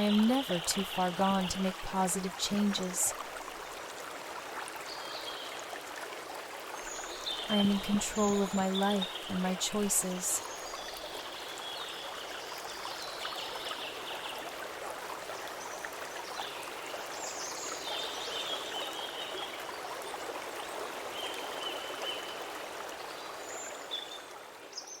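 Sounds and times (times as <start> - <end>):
stream water rushing: 0.0 - 24.7.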